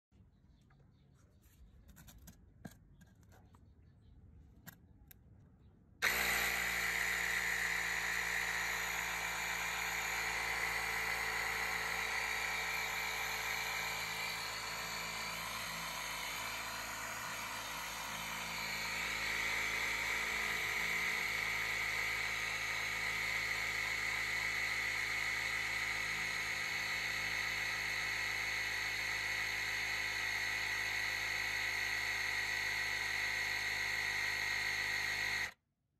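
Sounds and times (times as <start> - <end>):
air compressor running: 6.0 - 35.6.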